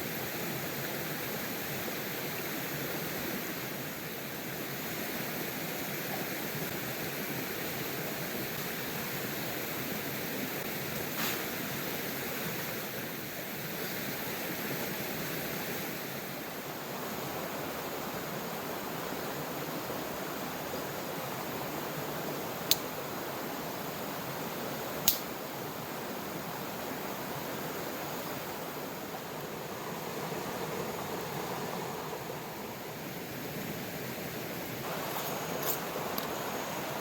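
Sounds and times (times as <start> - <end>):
water rushing: 0.0 - 37.0.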